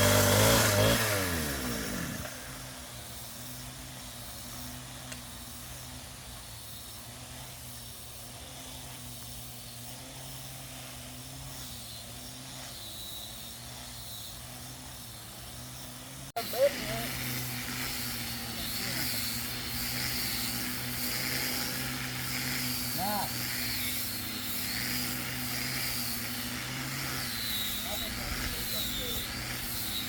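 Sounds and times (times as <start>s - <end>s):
power tool motor winding down: 0.0s - 30.0s.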